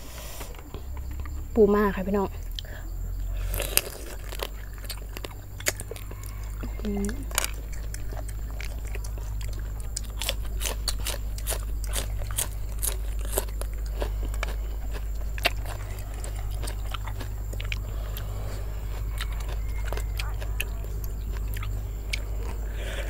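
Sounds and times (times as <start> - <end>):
crunchy chewing: 0.0 - 23.0
steady low hum: 0.0 - 23.0.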